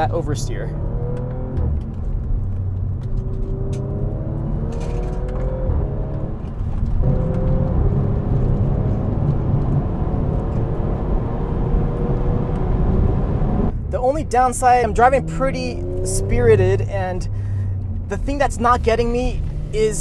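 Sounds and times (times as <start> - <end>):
car engine accelerating: 0.0 - 20.0
road and tyre rumble: 0.0 - 20.0.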